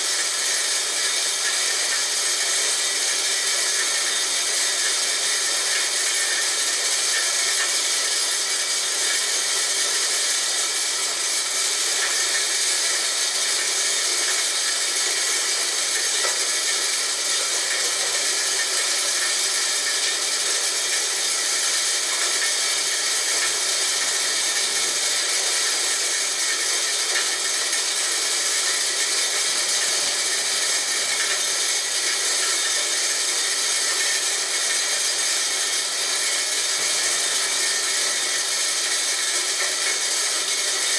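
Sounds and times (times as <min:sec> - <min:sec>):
electric corn grinder grinding: 0:00.0 - 0:40.9.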